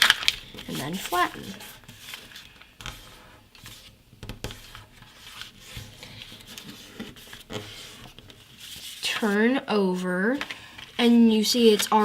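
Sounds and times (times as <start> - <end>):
paper rustling and creasing: 0.0 - 12.0.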